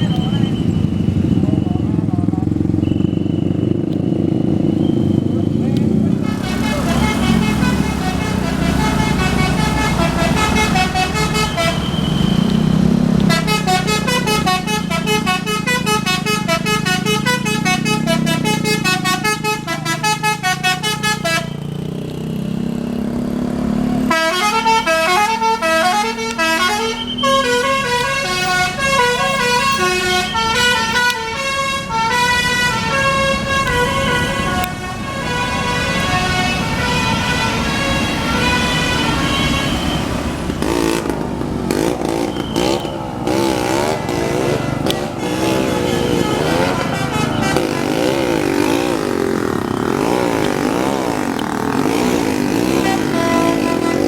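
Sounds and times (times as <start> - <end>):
multi-tone musical bus horn: 6.2 - 21.6, 24.0 - 41.1, 41.7 - 54.0.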